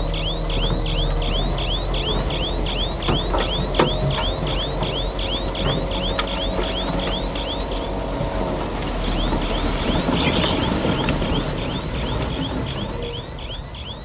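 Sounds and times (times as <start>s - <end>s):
machine engine rumble: 0.0s - 14.0s
reversing alarm chirping: 0.0s - 14.0s.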